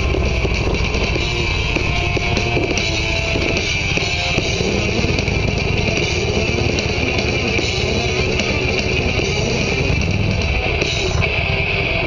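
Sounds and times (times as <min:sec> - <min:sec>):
road rumble: 0:00.0 - 0:12.0
rock music through small speakers: 0:00.0 - 0:12.0
vehicle engine: 0:00.0 - 0:12.0.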